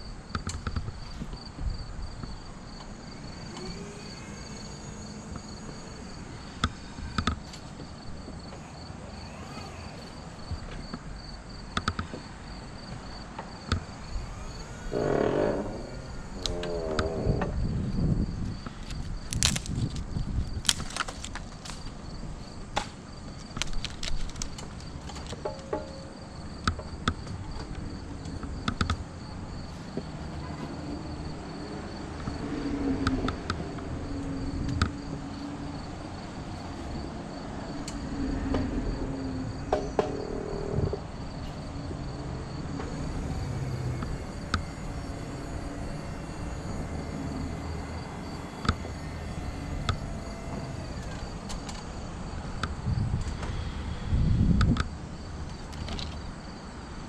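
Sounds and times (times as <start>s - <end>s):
cricket trill: 0.0s - 57.0s.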